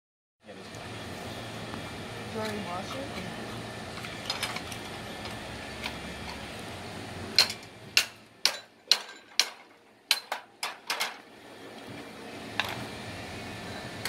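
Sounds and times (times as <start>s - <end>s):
steady low hum: 0.4s - 14.0s.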